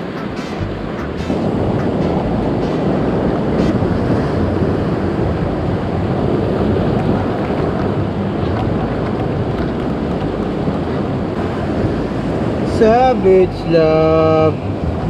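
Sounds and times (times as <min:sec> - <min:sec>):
sea surf rushing: 0:00.0 - 0:15.0
wind buffeting the microphone: 0:00.0 - 0:15.0.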